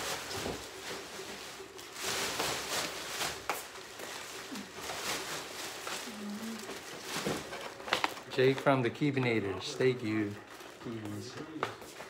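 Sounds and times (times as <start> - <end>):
plastic trash bag rustling: 0.0 - 11.0
wrapping paper crinkling: 0.0 - 11.1.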